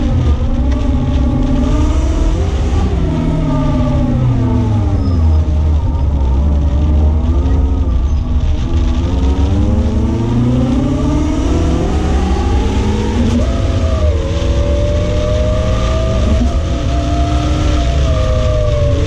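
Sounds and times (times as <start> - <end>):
car engine revving: 0.0 - 19.0
road noise rumble: 0.0 - 19.0.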